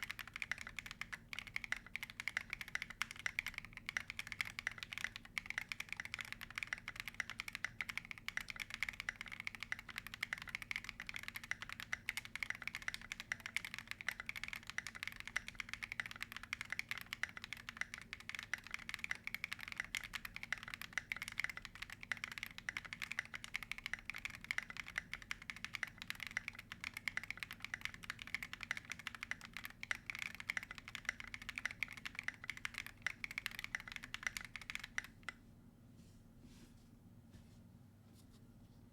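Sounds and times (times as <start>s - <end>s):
rapid mechanical keyboard typing: 0.0s - 35.4s.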